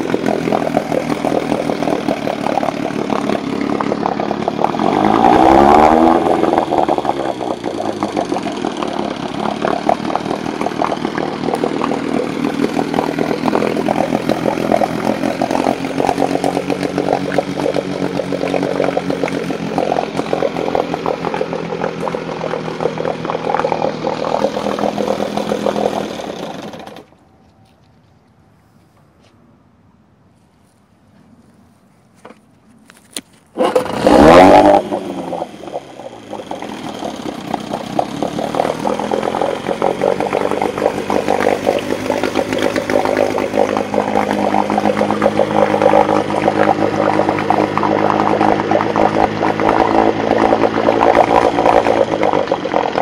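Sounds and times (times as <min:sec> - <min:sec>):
outboard motor running: 0:00.0 - 0:27.2, 0:33.0 - 0:53.0.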